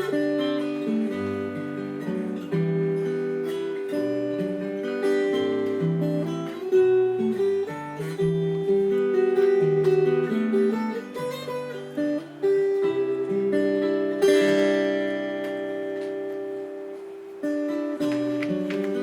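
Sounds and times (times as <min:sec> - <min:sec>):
fingerstyle acoustic guitar: 0:00.0 - 0:19.0.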